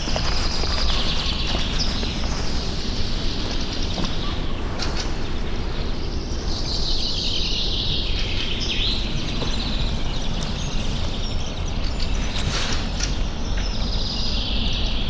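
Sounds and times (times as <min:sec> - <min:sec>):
low outdoor rumble: 0:00.0 - 0:15.0
songbirds singing: 0:00.0 - 0:15.0.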